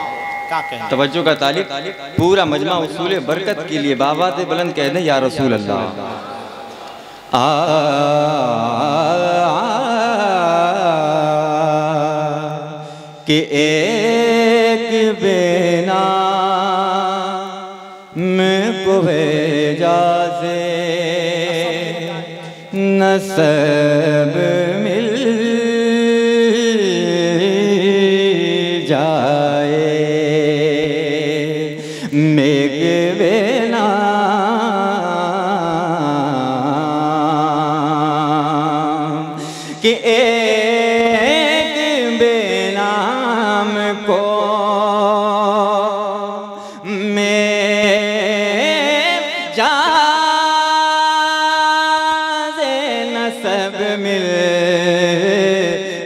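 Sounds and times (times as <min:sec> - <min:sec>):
man singing into a microphone: 0:00.9 - 0:56.0.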